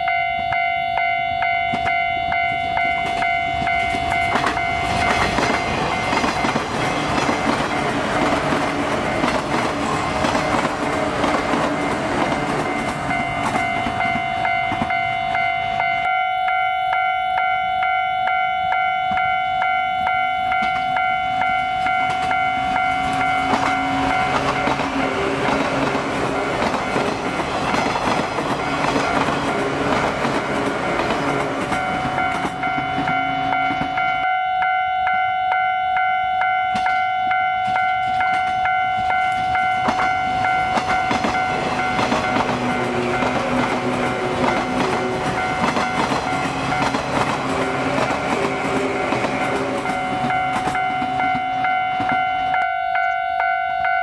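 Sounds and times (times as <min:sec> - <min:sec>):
electric trains passing: 0:00.0 - 0:54.0.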